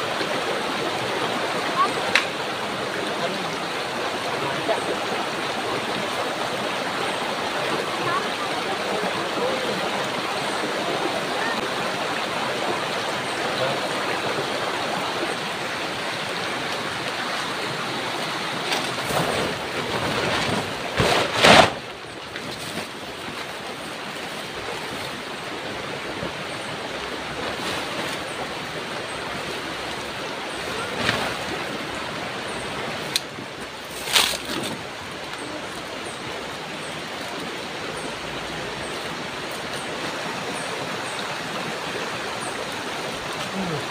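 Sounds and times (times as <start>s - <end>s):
river flowing over stones: 0.0s - 43.9s.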